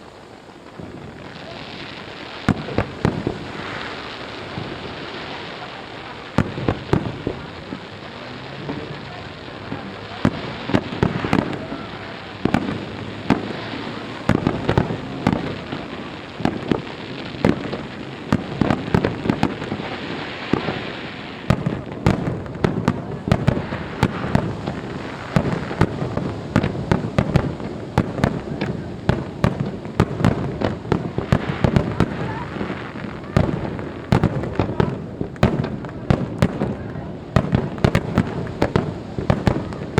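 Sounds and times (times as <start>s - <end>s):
firework crackle: 0.0s - 39.9s.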